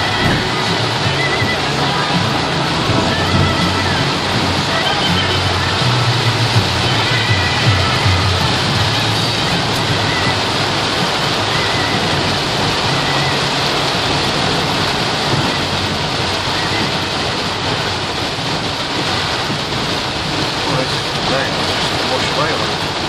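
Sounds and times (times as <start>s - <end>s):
torrential rain on a car: 0.0s - 23.0s.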